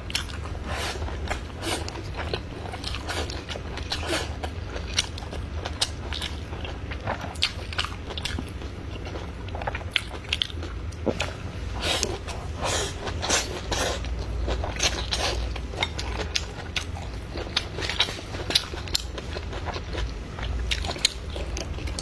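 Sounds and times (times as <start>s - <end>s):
chewing and biting food: 0.0s - 22.0s.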